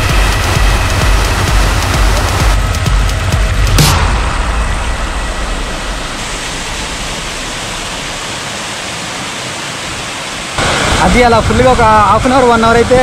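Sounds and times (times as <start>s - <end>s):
waterfall roar: 0.0s - 2.9s, 3.8s - 13.0s.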